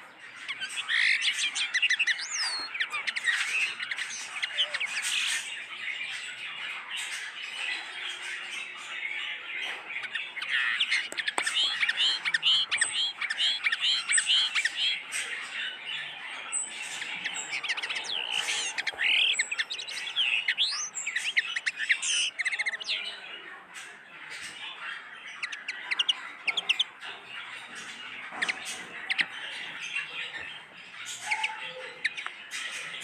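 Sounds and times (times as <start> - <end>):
caged birds chirping and squawking: 0.0 - 33.0.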